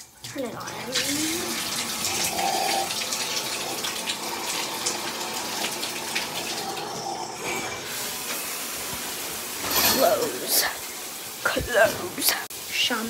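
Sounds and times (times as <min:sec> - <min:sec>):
water running into bathtub: 0:00.0 - 0:13.0
shower spray: 0:00.5 - 0:13.0.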